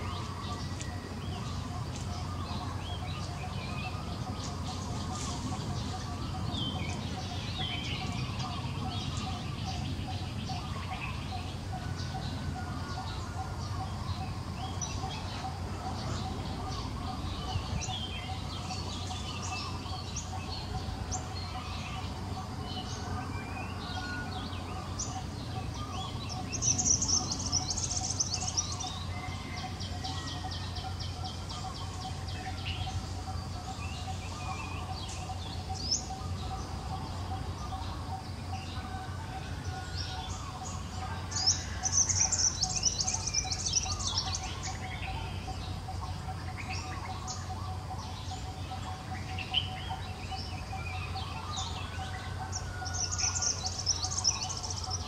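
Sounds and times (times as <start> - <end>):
birds chirping: 0.0 - 55.0
faint steady tone: 0.0 - 55.0.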